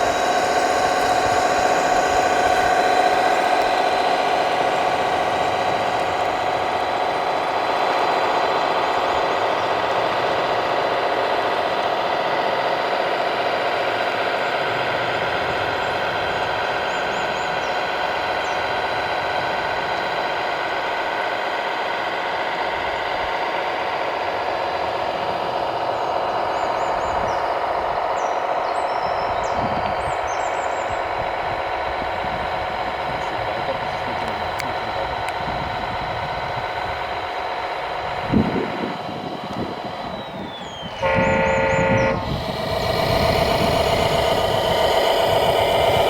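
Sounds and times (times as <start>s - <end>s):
model machinery whine and hum: 0.0s - 46.0s.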